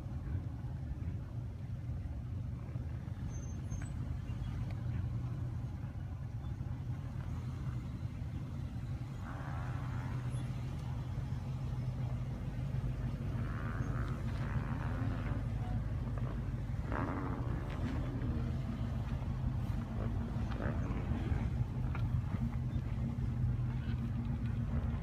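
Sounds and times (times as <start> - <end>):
engine low rumble: 0.0 - 25.0.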